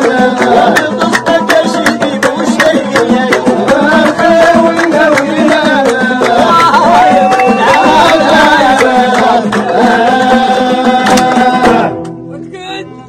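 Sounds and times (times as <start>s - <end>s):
plucked lute: 0.0s - 7.0s, 7.6s - 13.0s
man singing: 0.0s - 12.0s
rhythmic handclaps: 0.0s - 12.2s.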